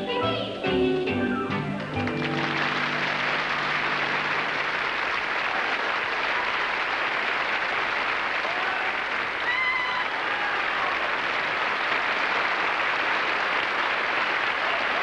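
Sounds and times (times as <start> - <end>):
audience applauding: 1.5 - 15.0.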